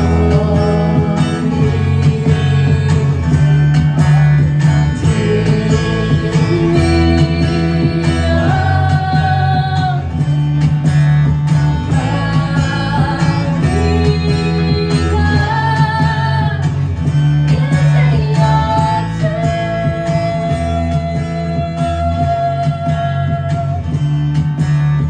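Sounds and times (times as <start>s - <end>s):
woman singing: 0.0s - 10.2s, 11.8s - 24.0s
strummed acoustic guitar: 0.0s - 25.0s.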